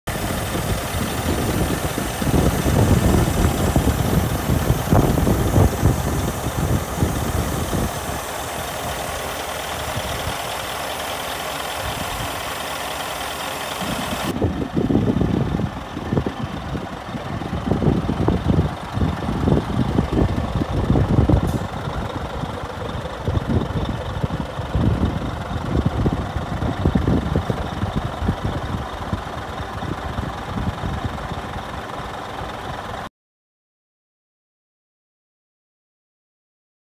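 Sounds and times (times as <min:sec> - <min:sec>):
diesel engine idling: 0:00.1 - 0:33.1.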